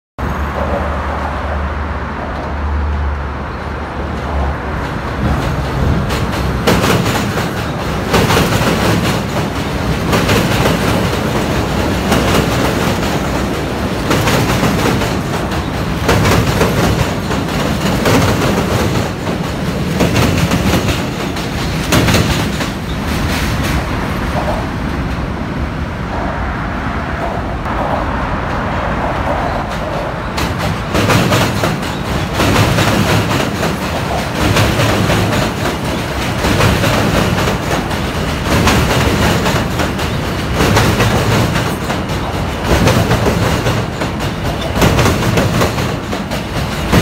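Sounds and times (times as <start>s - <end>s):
subway train rumble: 0.2s - 47.0s
wheels clacking over rail joints: 3.6s - 25.4s, 29.1s - 47.0s.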